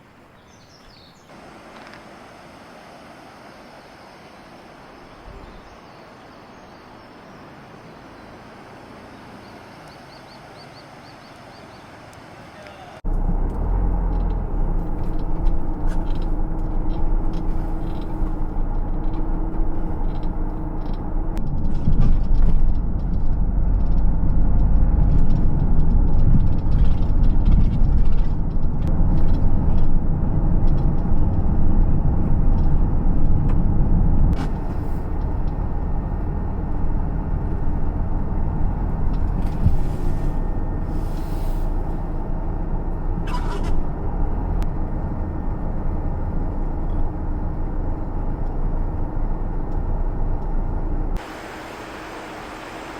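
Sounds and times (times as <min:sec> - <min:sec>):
vehicle engine and road rumble: 0:00.0 - 0:52.9.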